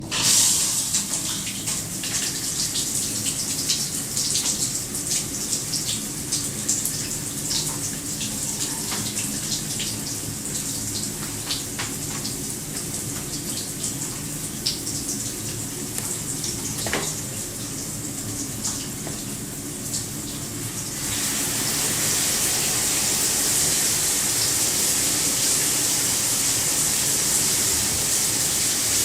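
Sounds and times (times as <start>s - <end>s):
shower spray hissing: 0.1s - 29.0s.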